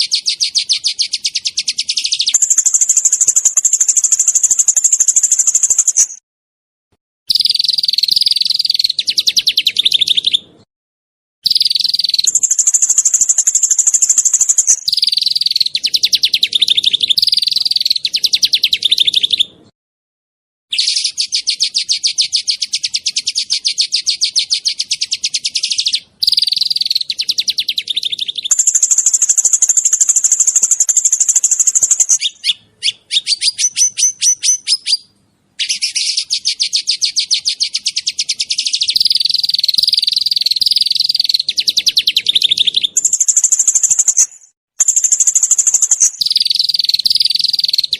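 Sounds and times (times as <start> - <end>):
songbird trilling: 0.0 - 6.2, 7.3 - 10.4, 11.4 - 19.5, 20.7 - 47.9.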